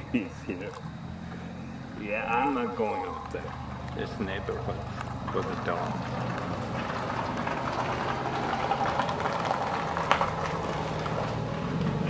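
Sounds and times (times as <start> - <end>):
truck passing: 0.0 - 12.0
tyre road noise: 0.0 - 12.0.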